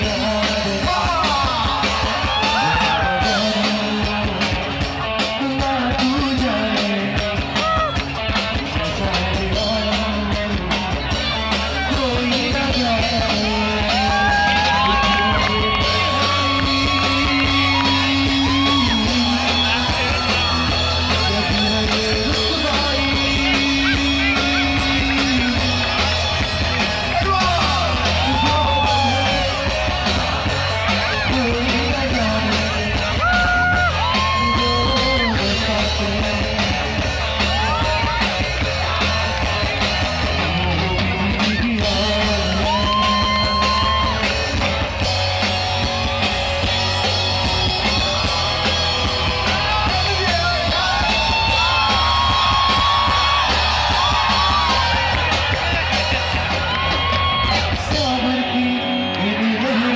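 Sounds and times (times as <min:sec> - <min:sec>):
man singing: 0:00.0 - 0:26.4, 0:27.0 - 0:45.1, 0:47.8 - 0:53.1, 0:56.7 - 0:59.9
pop-rock band playing: 0:00.0 - 0:59.9.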